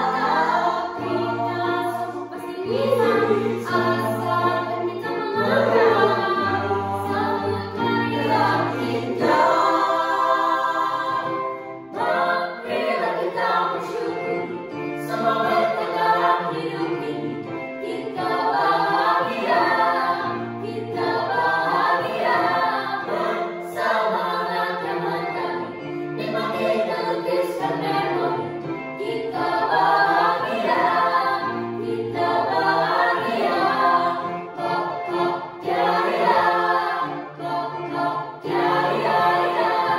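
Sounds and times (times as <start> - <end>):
choir singing in parts: 0.0 - 39.9.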